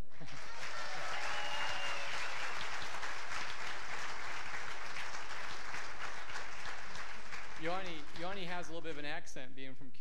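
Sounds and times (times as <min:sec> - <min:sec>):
congregation applauding: 0:00.0 - 0:09.0.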